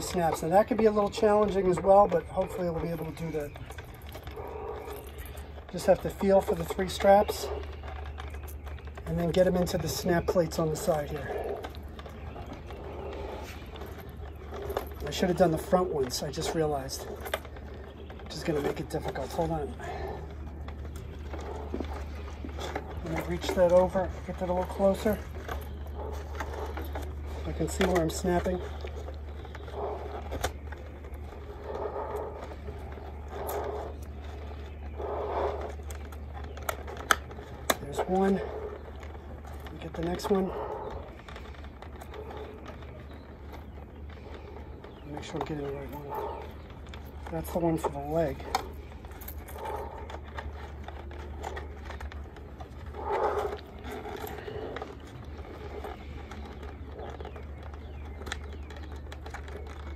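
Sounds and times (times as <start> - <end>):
plastic armor scraping: 0.0 - 59.9
rustling straps: 0.0 - 59.9
steady low hum: 0.0 - 59.9.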